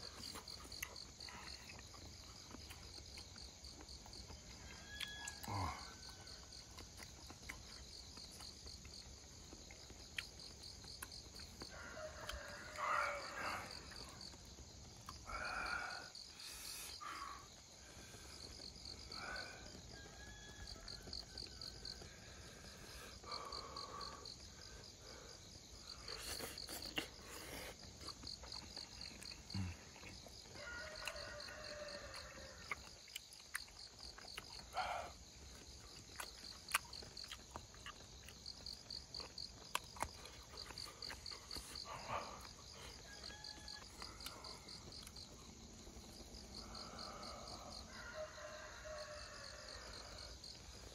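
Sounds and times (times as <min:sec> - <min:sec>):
insects chirping: 0:00.0 - 0:50.9.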